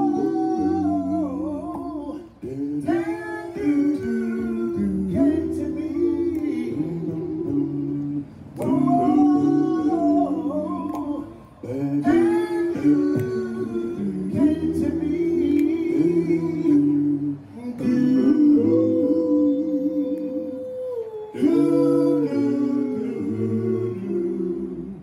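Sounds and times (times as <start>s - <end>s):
male vocal group singing: 0.0s - 25.0s.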